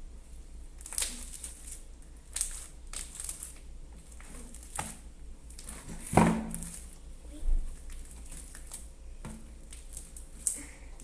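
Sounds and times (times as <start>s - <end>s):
slime crackling while kneaded: 0.2s - 7.1s, 7.7s - 11.0s.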